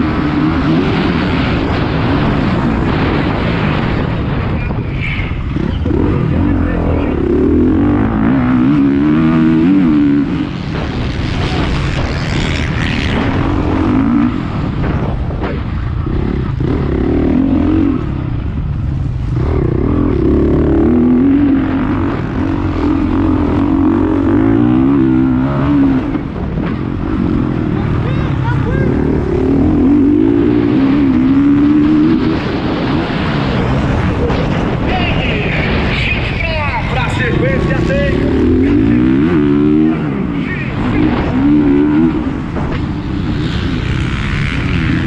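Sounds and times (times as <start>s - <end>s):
motocross bike engine revving: 0.0s - 4.6s, 5.2s - 34.9s, 36.9s - 45.0s.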